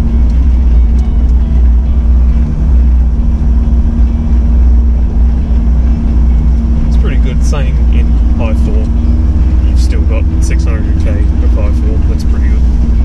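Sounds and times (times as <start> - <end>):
vehicle engine and tyres droning: 0.0 - 13.0.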